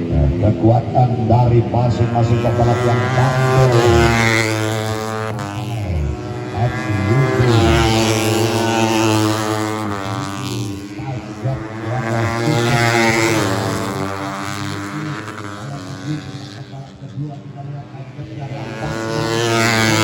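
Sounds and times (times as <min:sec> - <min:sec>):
race motorcycles droning: 0:00.0 - 0:20.0.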